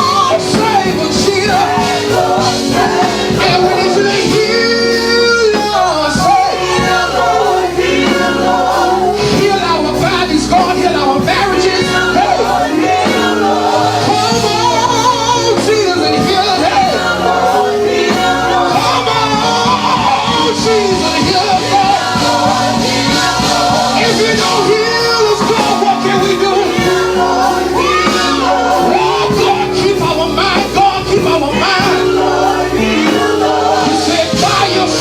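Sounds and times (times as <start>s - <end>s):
gospel band music: 0.0s - 35.0s
person singing: 0.0s - 35.0s.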